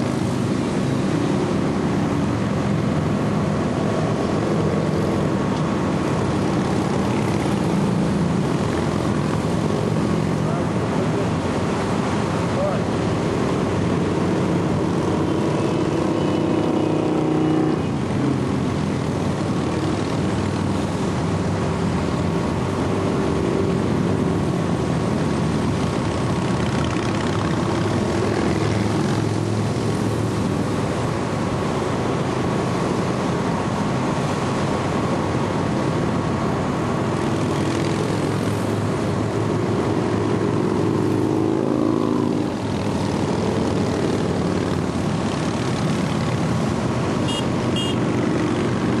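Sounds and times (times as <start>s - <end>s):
motorcycles passing: 0.0s - 49.0s.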